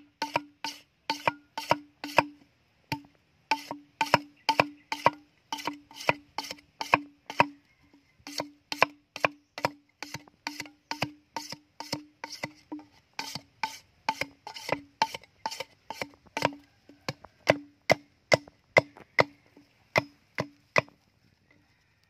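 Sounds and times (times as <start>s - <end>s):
machete chopping bamboo: 0.1s - 7.6s, 8.3s - 21.0s.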